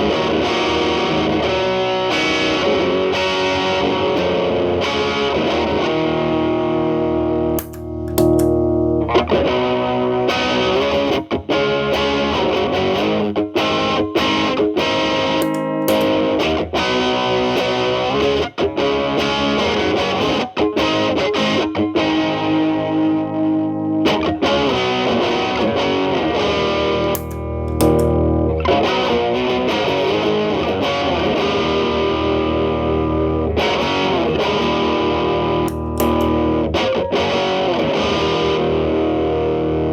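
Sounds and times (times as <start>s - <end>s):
distorted electric guitar chords: 0.0s - 39.9s.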